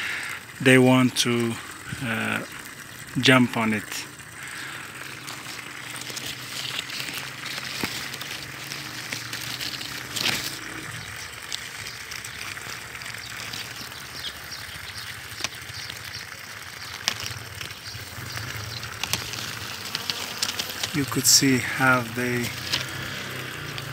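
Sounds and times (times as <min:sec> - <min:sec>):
bee swarm buzzing: 0:00.0 - 0:23.9.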